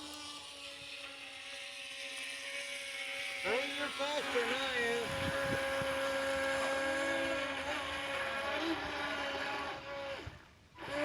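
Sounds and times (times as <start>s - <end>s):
toy boat motors whining: 0.0s - 11.0s.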